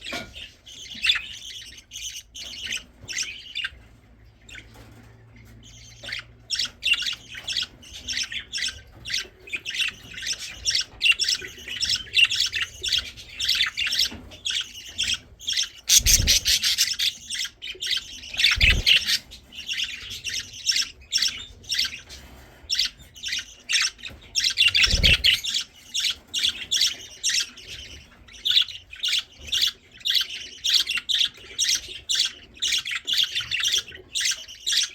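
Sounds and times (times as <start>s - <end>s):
baby budgerigars squawking: 0.0s - 34.9s.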